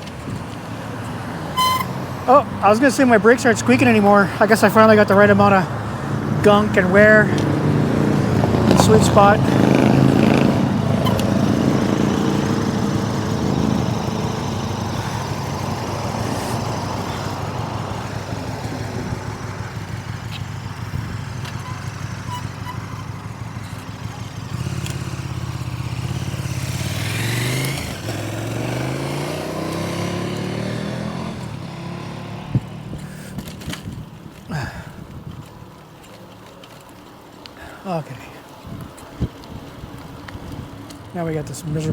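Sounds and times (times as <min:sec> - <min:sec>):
vehicle engine accelerating: 0:00.0 - 0:34.7
road traffic passing: 0:00.0 - 0:41.9.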